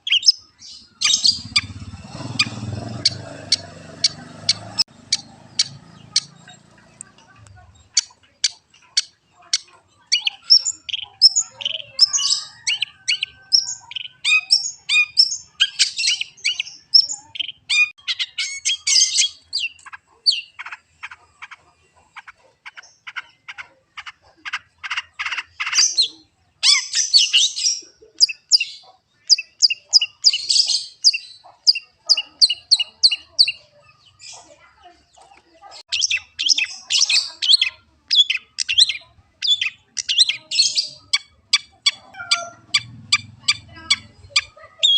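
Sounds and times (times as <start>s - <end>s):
shrike singing sharp chirps and trills: 0.0s - 44.9s.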